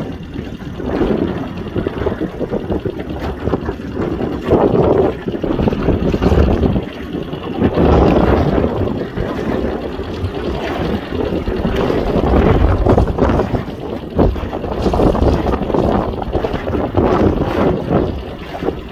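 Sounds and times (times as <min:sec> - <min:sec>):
gusty wind on microphone: 0:00.0 - 0:18.9.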